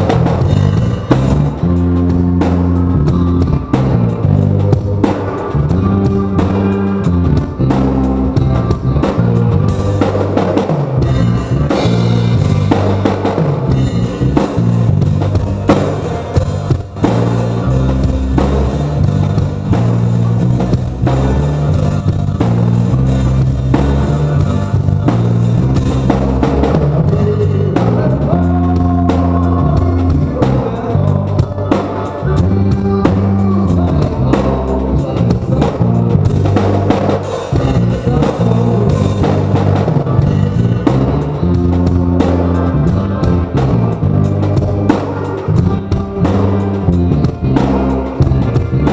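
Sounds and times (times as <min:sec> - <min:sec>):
bass drum: 0:00.0 - 0:48.9
bass guitar: 0:00.0 - 0:48.9
electric guitar: 0:00.0 - 0:48.9.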